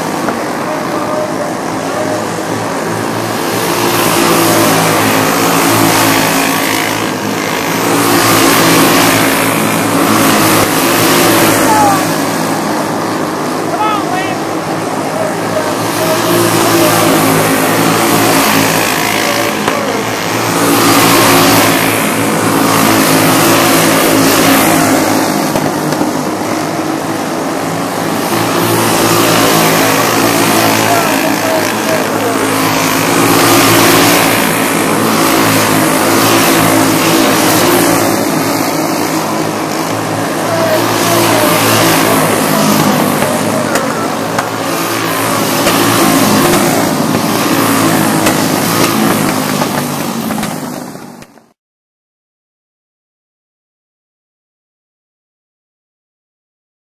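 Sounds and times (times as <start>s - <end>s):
racing kart engines whining: 0.0s - 51.6s.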